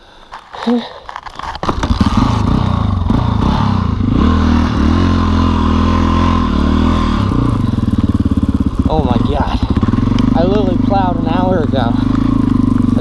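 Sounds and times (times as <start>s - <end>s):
motorcycle engine revving high: 1.8s - 13.0s.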